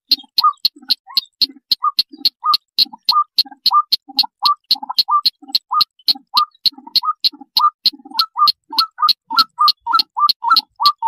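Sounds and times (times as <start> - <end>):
crake calling sharp clicking notes: 0.0 - 11.0.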